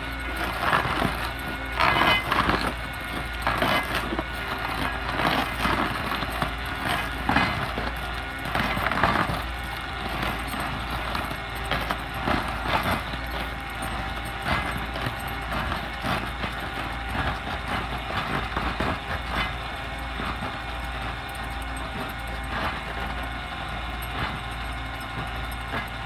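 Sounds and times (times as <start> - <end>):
stump grinder tearing wood: 0.0 - 26.0
tractor engine running under load: 0.0 - 26.0.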